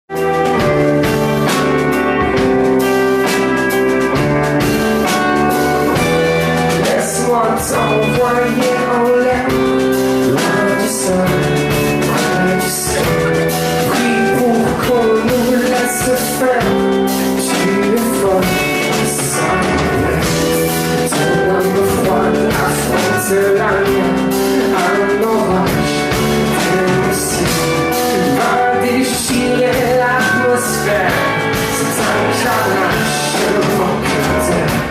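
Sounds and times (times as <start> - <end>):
drum kit: 0.1 - 34.9
electric guitar: 0.1 - 34.9
man singing: 6.0 - 34.9.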